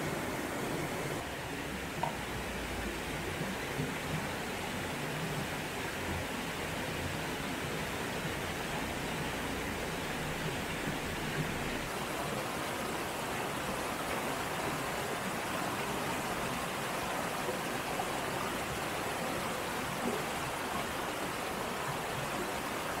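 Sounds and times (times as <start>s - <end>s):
creek rushing over rocks: 0.0s - 23.0s.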